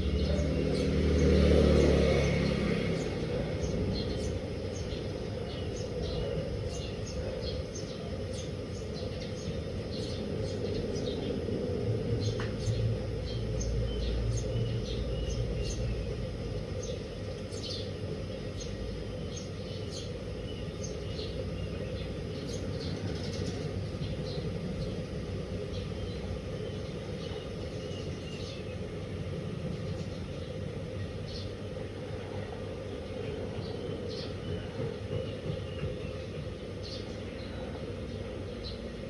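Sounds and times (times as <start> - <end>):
steady low rumble: 2.3 - 33.6.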